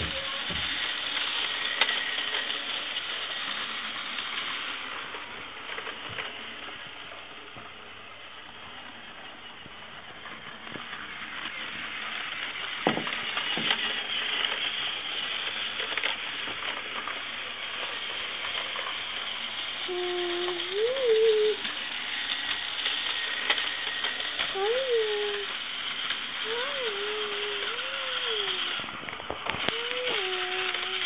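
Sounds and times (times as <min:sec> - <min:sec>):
toy train whirring rattle: 0:00.0 - 0:31.0.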